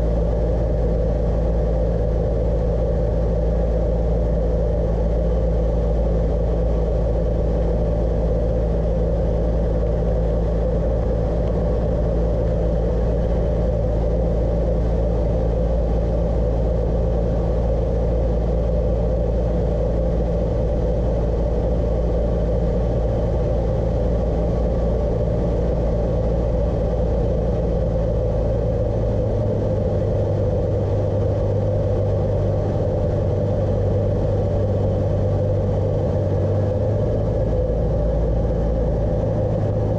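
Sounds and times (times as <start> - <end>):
plane engine droning in cabin: 0.0 - 39.9.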